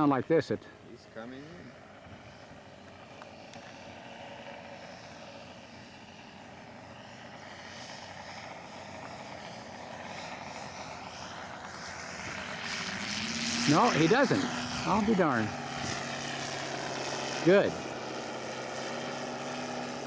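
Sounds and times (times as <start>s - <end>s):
model airplane engine: 0.0s - 20.0s.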